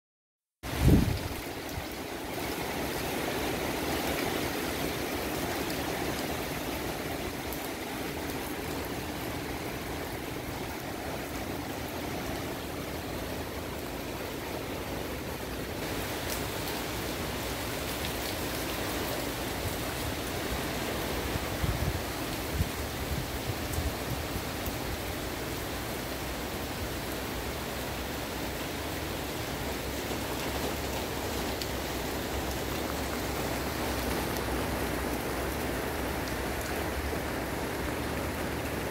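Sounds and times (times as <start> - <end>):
rain falling on foliage: 0.6 - 38.9.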